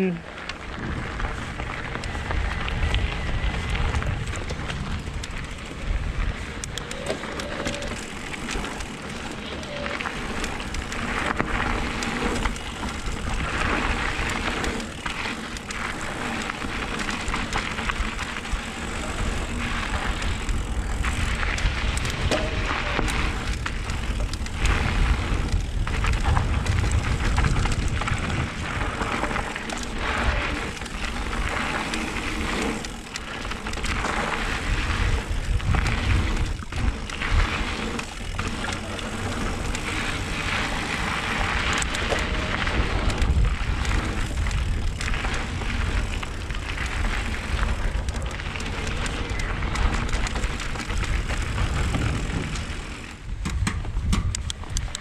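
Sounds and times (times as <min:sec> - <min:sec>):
wind rushing over microphone: 0:00.0 - 0:08.9, 0:09.7 - 0:32.8, 0:33.5 - 0:55.0
low wind buffeting: 0:00.0 - 0:55.0
tyres rolling on dirt trail: 0:00.0 - 0:55.0.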